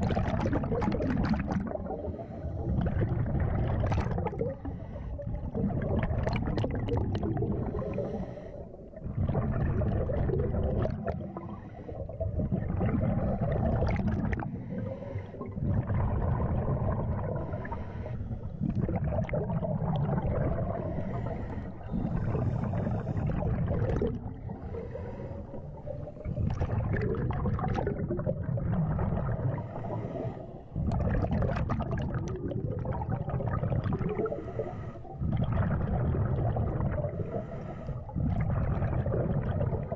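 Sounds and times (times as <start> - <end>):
exhaled bubbles rumbling underwater: 0.0 - 39.9.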